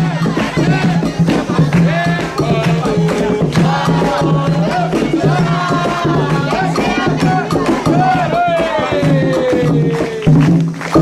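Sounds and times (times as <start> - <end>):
voices singing a chant: 0.0 - 10.6
drums struck: 0.0 - 11.0.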